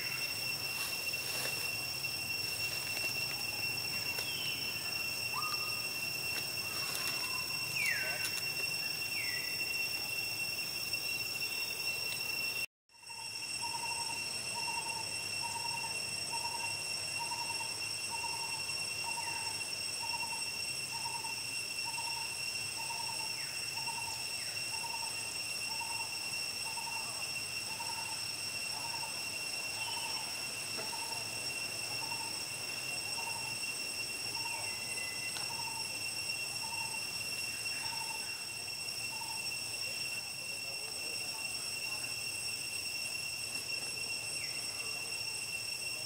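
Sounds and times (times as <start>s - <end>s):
high-pitched whine: 0.0s - 46.0s.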